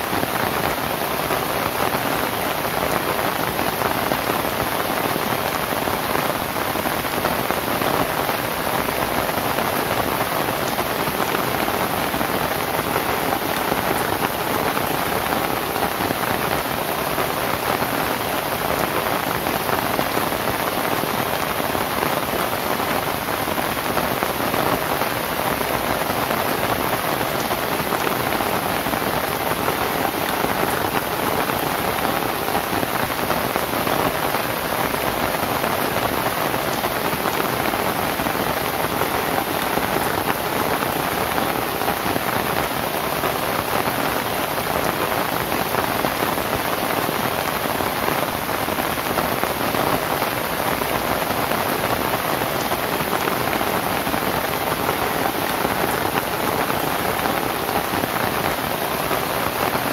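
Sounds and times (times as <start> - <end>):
rain on a thatched roof: 0.0 - 59.9.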